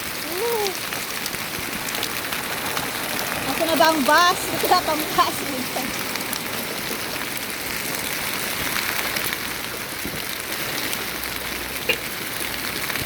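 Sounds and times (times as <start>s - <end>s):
hail striking hard surfaces: 0.0s - 13.0s.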